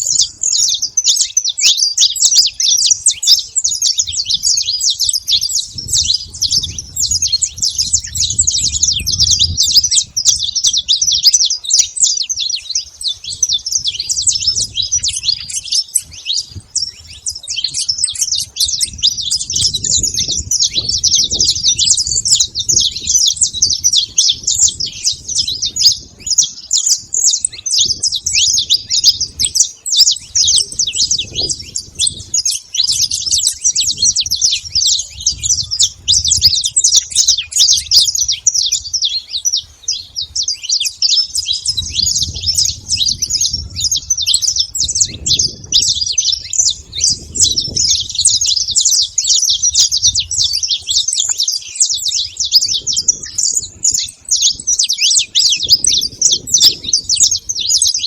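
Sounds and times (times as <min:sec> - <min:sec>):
finches chirping: 0:00.0 - 0:58.0.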